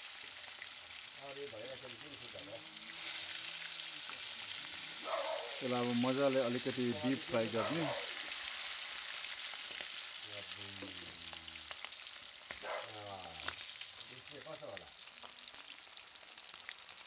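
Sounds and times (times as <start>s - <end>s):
chicken wings deep-frying in oil: 0.0s - 17.0s.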